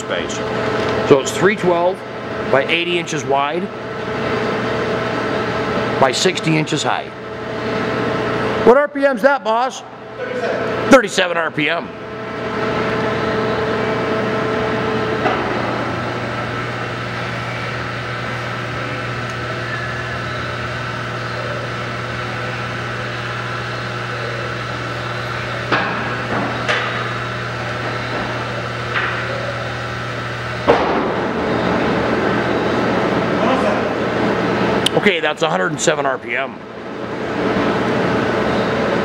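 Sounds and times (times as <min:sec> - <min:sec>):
lathe gear drive humming: 0:00.0 - 0:08.7, 0:10.0 - 0:39.0.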